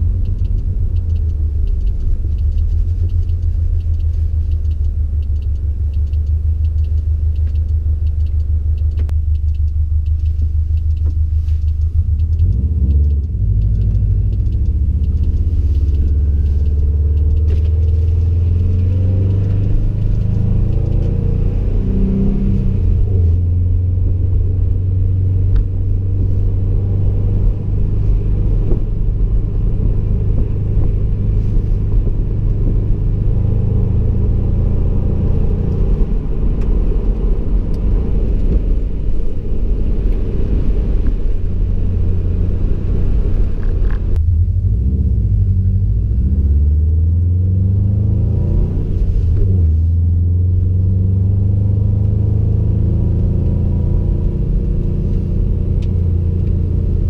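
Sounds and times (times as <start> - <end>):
car engine rumbling deeply: 0.0 - 57.0.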